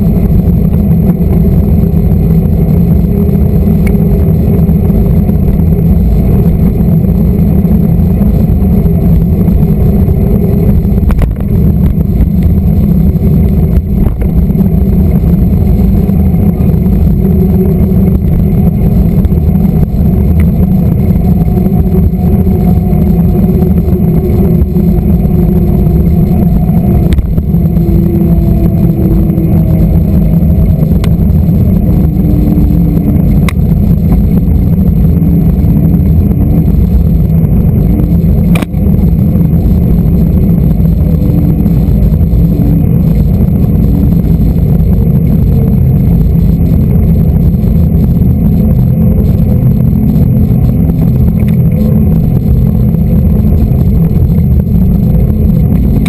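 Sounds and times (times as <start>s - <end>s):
pitch-shifting hum: 0.0s - 56.0s
wind roar: 0.0s - 56.0s.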